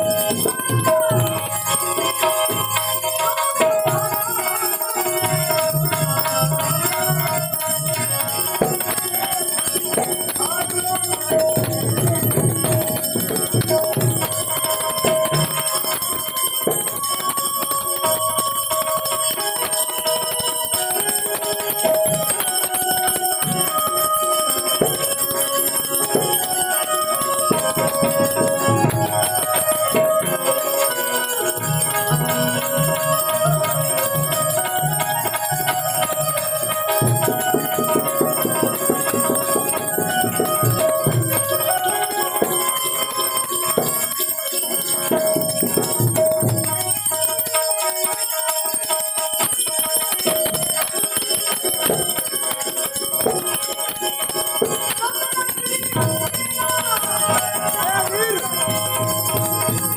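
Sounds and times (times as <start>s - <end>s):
drum beats: 0.0s - 59.9s
harmonium melody: 0.0s - 59.9s
small hand cymbals ringing: 0.0s - 59.9s.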